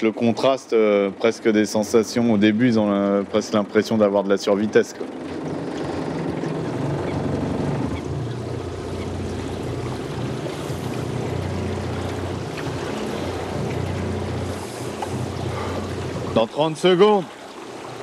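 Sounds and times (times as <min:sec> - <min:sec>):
outboard motor running: 0:00.0 - 0:18.0
water and wind hiss: 0:00.0 - 0:18.0.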